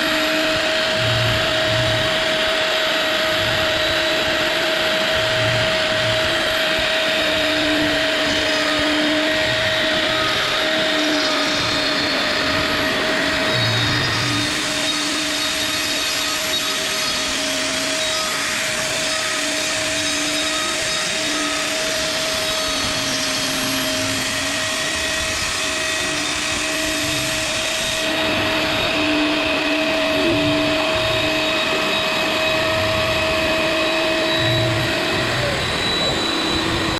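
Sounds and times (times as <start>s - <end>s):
power tool whining on wood: 0.0s - 36.9s.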